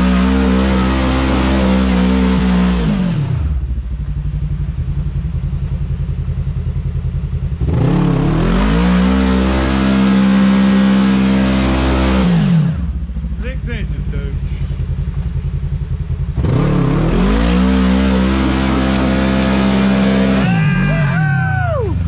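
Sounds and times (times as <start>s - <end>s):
utility vehicle engine revving: 0.0s - 22.0s.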